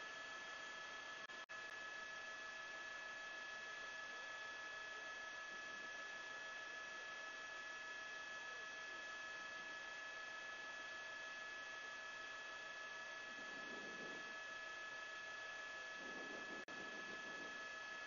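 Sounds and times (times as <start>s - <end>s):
electronic hum of fixed tones: 0.0s - 18.0s.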